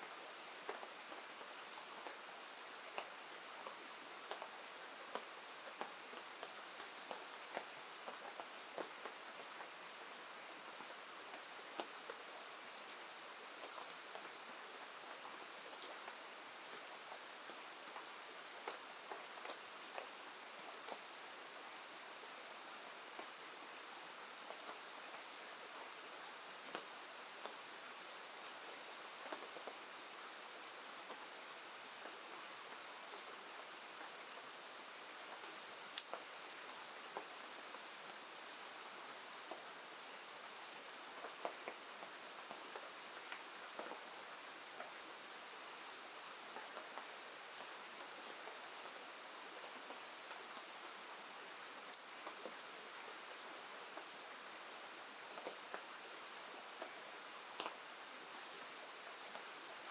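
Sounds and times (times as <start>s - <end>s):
raindrops ticking on surfaces: 0.0s - 59.9s
steady rain falling: 0.0s - 59.9s.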